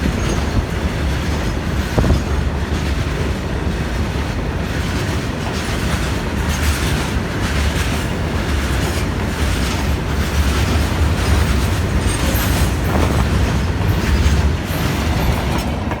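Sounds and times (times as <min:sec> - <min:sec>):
train wagons rumbling past: 0:00.0 - 0:16.0.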